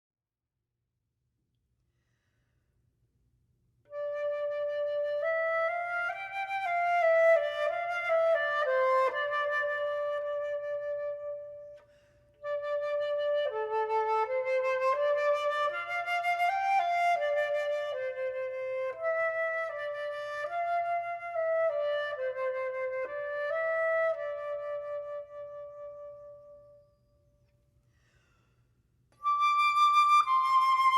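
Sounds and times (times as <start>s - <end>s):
solo flute melody: 3.9s - 27.1s, 29.2s - 30.9s.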